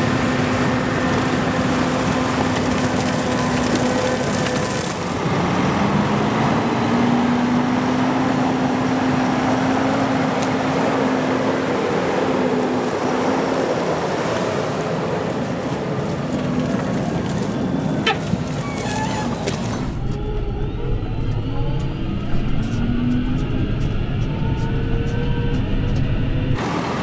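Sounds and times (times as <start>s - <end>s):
large engine humming: 0.0s - 27.0s.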